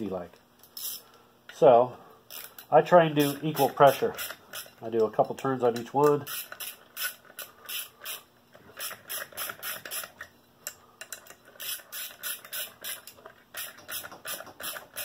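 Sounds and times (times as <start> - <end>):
ratchet tool clicking: 0.7 - 1.1, 2.3 - 15.0.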